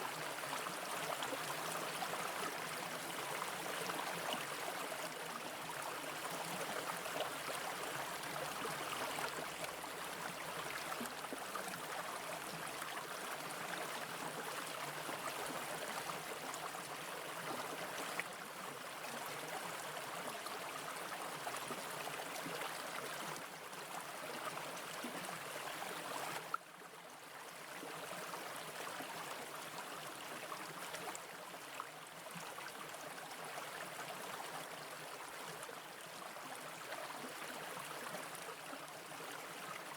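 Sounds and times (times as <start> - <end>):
brook water flowing over rocks: 0.0 - 39.9.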